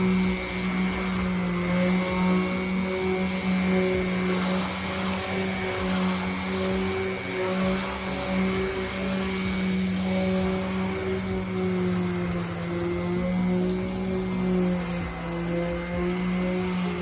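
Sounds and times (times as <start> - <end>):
power sander on metal panel: 0.0 - 17.0.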